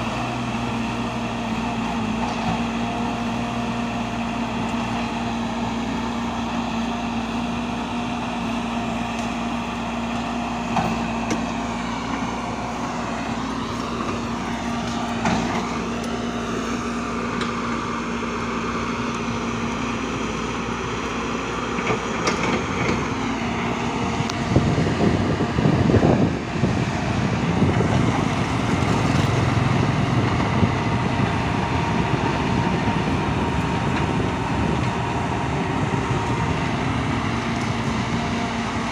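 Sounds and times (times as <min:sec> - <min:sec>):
machinery running steadily: 0:00.0 - 0:38.9.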